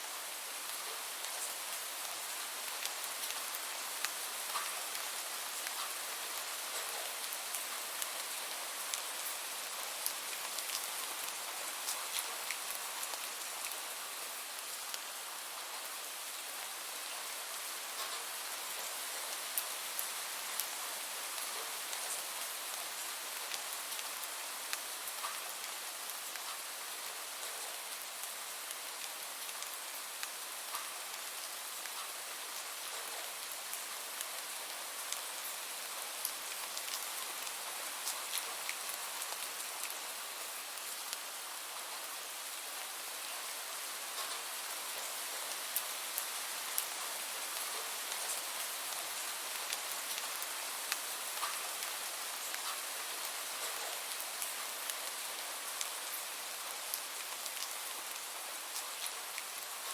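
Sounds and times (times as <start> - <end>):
steady rain hiss: 0.0 - 59.9
raindrops pattering on surfaces: 0.6 - 59.9.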